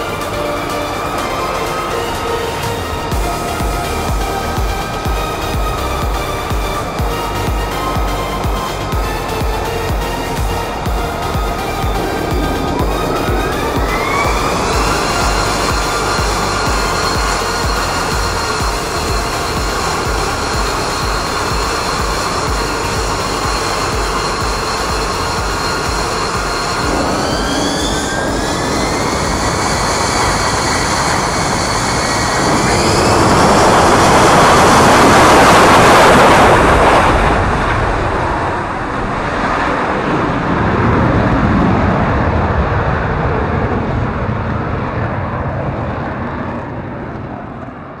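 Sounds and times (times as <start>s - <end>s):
jet engine whine: 0.0s - 48.0s.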